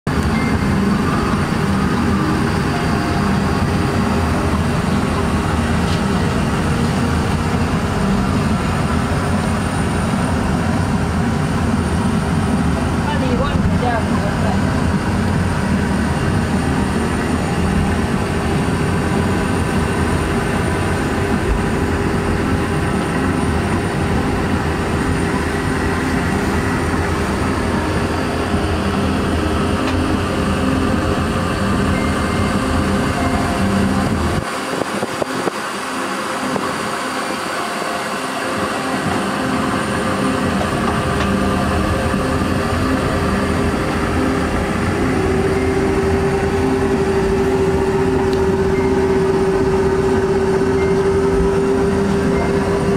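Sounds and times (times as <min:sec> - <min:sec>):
airliner cabin rumble: 0:00.1 - 0:52.9
steady hum: 0:00.1 - 0:52.9.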